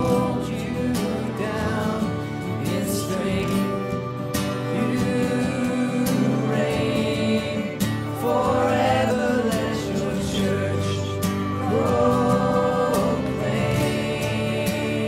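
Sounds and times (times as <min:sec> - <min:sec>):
group singing together: 0:00.0 - 0:15.0
keyboard: 0:00.0 - 0:15.0
strummed acoustic guitar: 0:00.0 - 0:15.0
violin: 0:00.0 - 0:15.0.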